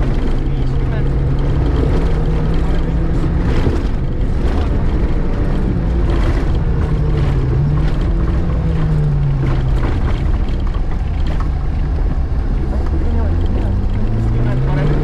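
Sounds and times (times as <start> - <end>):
gravel rattling under car: 0.0 - 15.0
rally car engine running hard: 0.0 - 15.0.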